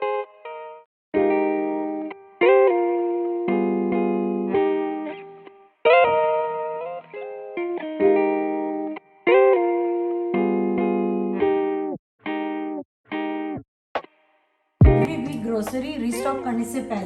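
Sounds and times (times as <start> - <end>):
plucked guitar music: 0.0 - 13.6, 14.8 - 17.0.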